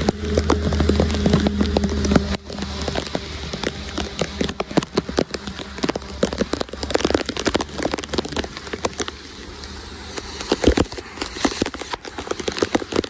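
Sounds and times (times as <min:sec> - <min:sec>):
heavy rain on wet road: 0:00.0 - 0:13.0
water pouring into drain: 0:00.0 - 0:13.0.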